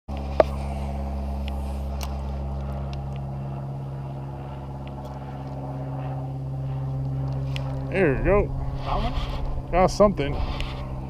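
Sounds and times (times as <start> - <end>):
boat motor humming: 0.1 - 11.0.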